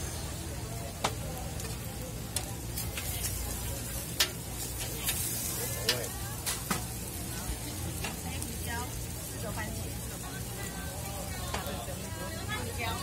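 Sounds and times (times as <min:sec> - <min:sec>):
hash browns sizzling on a griddle: 0:00.0 - 0:13.0.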